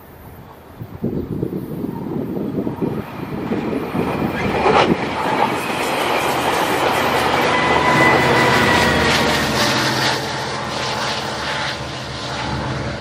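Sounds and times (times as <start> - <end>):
thin steady whine: 1.5 - 13.0.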